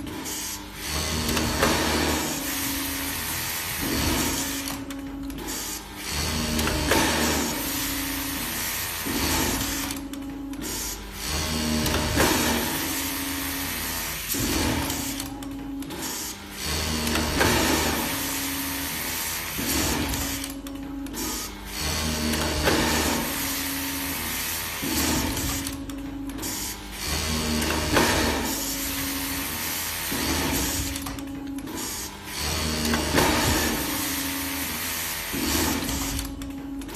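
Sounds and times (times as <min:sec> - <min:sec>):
sewing machine humming and stitching: 0:00.0 - 0:36.9.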